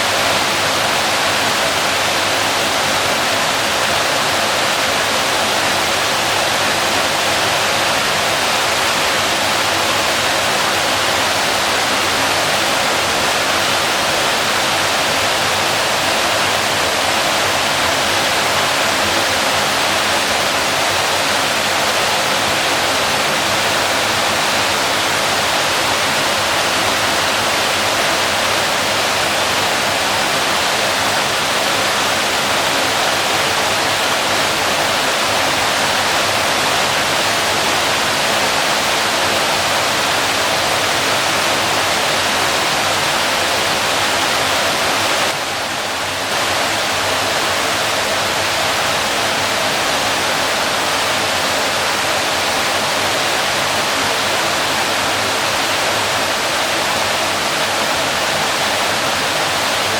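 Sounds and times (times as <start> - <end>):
waterfall pouring: 0.0 - 59.9.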